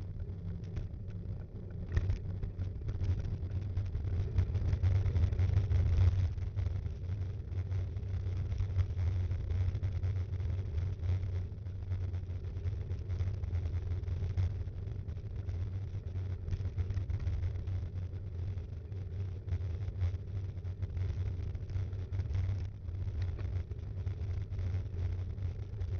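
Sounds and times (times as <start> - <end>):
low rumble of tyres and wind: 0.0 - 25.9.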